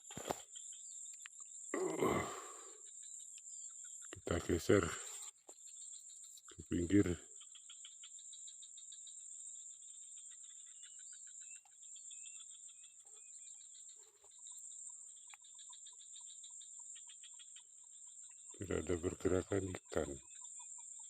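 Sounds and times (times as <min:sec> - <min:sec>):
bird chirps: 0:00.0 - 0:21.0
insects chirping and trilling: 0:00.0 - 0:21.0.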